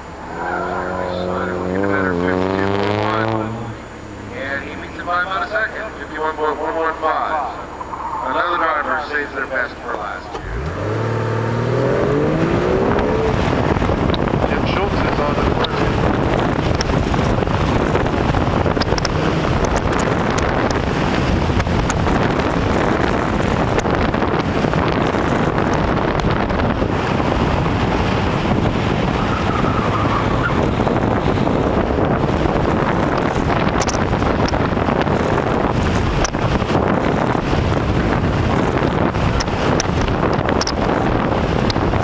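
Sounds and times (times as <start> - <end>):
car engine: 0.0 - 42.0
road noise: 0.0 - 42.0
wind rush over microphone: 7.5 - 42.0.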